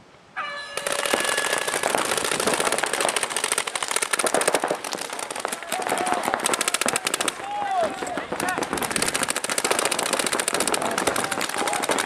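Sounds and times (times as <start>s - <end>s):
paintball markers firing: 0.8s - 12.0s.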